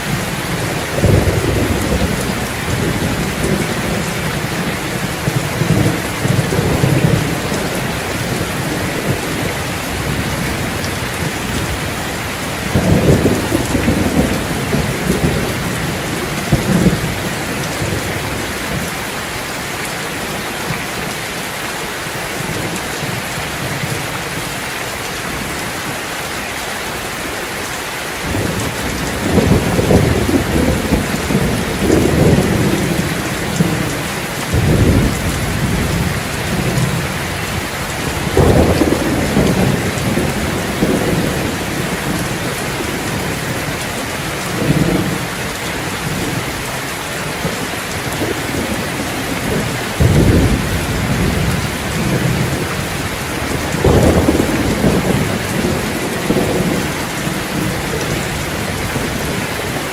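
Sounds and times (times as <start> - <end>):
thunder rumbling: 0.0 - 19.0, 28.2 - 59.9
steady rain: 0.0 - 59.9.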